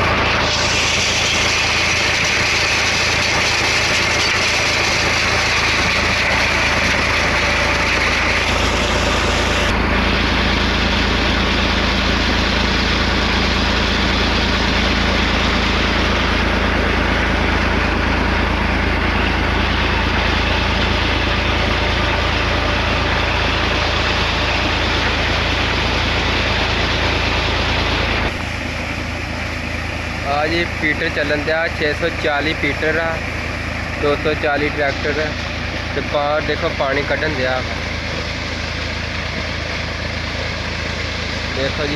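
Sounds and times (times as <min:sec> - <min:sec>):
tractor engine running under load: 0:00.0 - 0:41.9.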